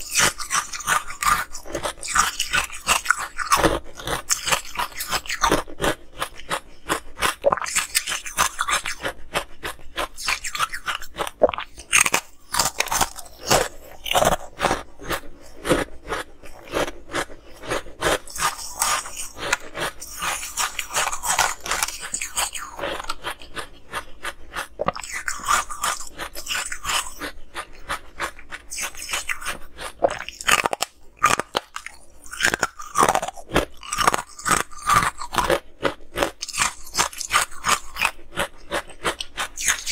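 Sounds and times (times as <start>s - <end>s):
crunching ice: 0.0s - 39.9s.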